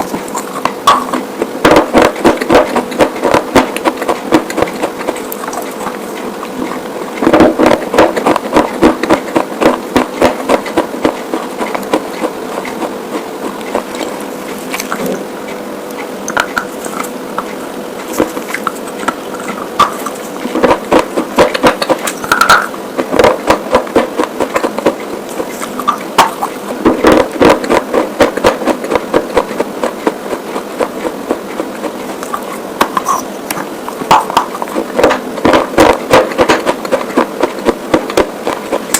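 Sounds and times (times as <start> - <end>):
crunching and chewing slate: 0.0 - 38.9
faint steady hum: 0.0 - 38.9.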